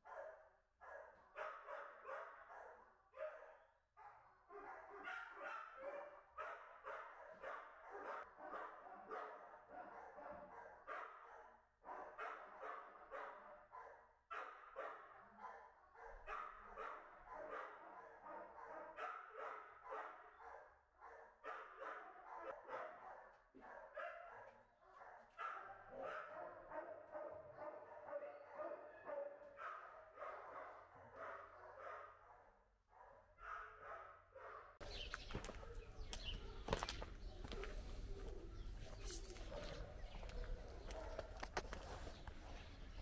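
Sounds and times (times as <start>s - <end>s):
many dogs barking: 0.0s - 42.7s.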